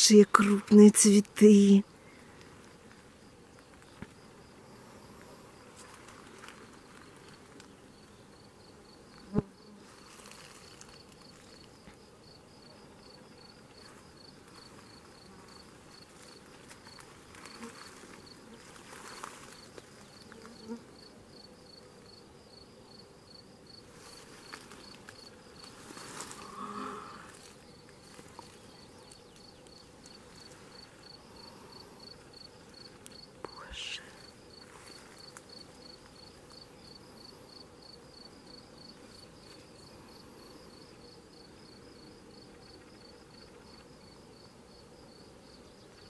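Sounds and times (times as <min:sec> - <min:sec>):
cricket chirping: 0:00.1 - 0:46.0.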